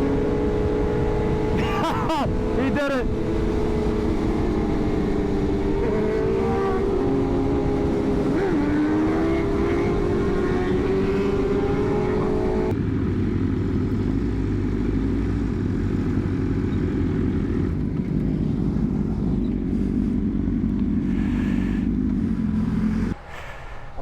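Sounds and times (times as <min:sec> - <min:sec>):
motorcycle engine revving: 0:00.0 - 0:23.2.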